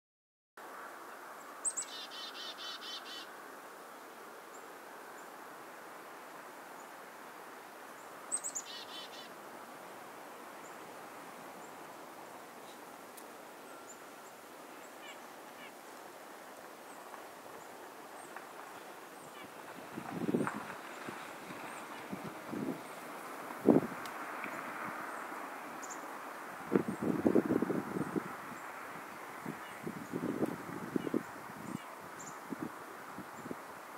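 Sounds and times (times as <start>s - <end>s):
faint background hiss: 0.6s - 33.9s.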